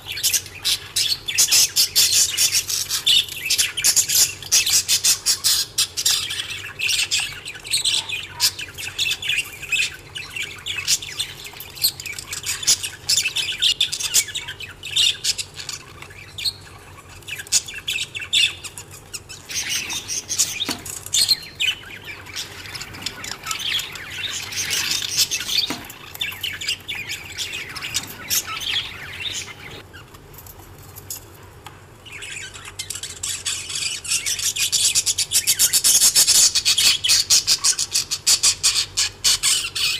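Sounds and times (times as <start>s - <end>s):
budgerigars chirping and chattering: 0.0s - 30.1s, 32.0s - 39.9s.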